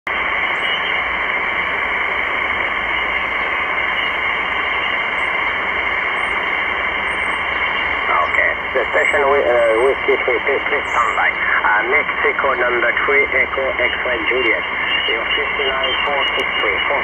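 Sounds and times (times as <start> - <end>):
shortwave receiver hiss: 0.1 - 17.0.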